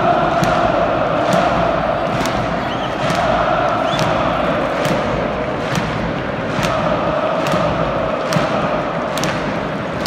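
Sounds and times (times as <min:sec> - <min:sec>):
drum beat: 0:00.0 - 0:10.0
stadium crowd chanting: 0:00.0 - 0:10.0.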